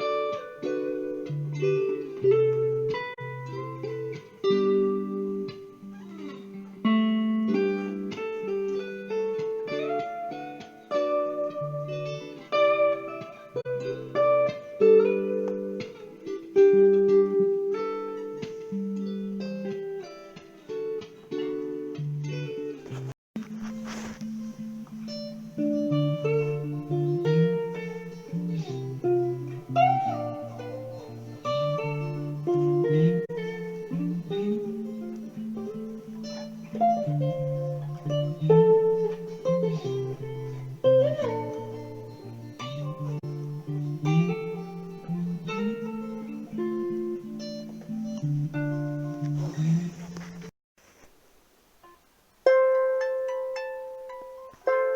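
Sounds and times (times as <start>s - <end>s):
plucked guitar music: 0.0s - 50.5s, 51.8s - 54.9s.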